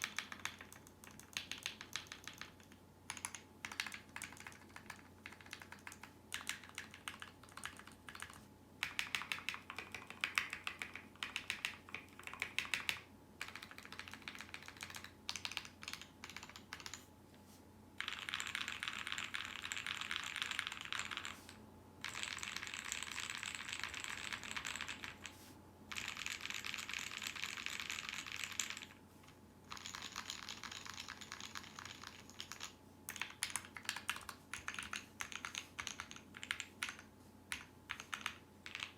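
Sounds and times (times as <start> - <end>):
mechanical keyboard typing: 0.0 - 17.1, 18.0 - 25.3, 25.9 - 29.0, 29.7 - 38.9.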